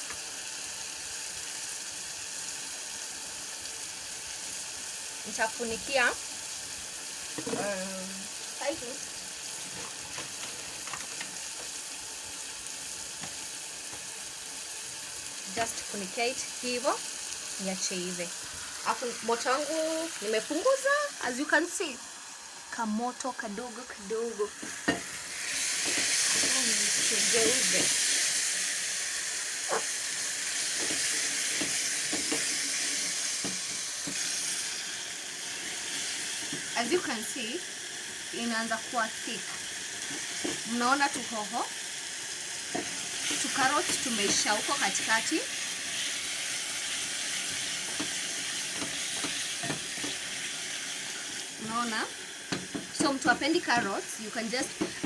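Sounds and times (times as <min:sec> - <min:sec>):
stew sizzling in pot: 0:00.0 - 0:55.0.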